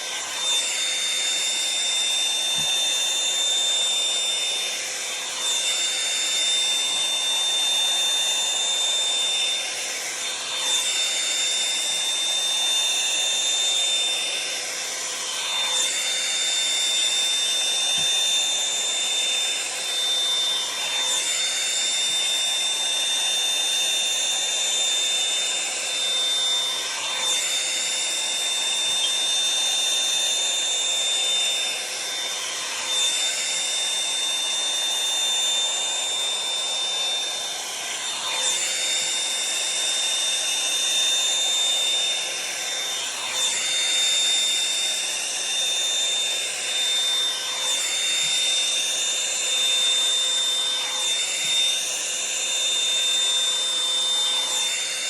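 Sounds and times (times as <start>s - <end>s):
hot-air brush hair dryer running: 0.0s - 55.0s.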